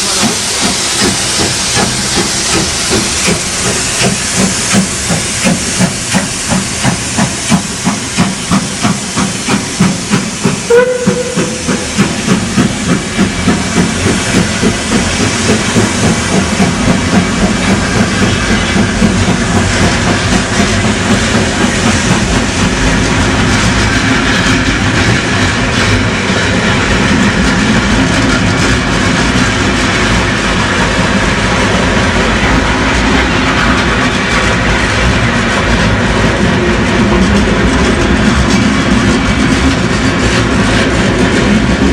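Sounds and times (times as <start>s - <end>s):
steam locomotive exhaust chuffs: 0.0s - 41.9s.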